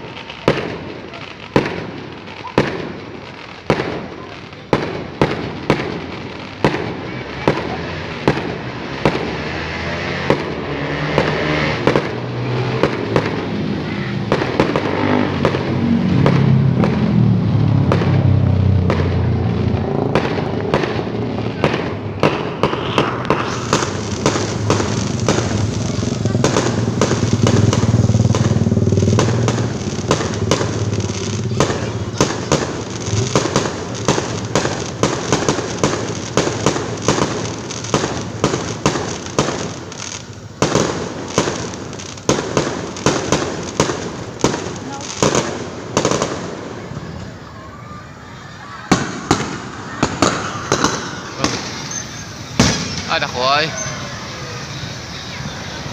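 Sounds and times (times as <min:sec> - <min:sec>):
fireworks bangs and cracks: 0:00.0 - 0:55.9.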